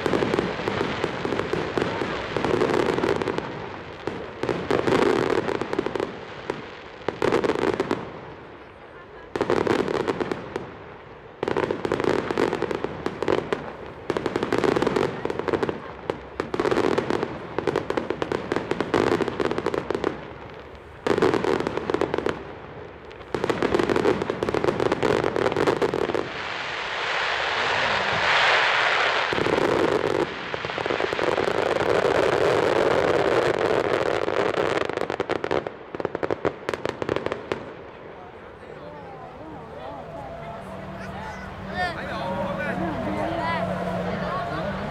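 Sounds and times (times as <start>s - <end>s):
fireworks crackling and bangs: 0.0s - 44.9s.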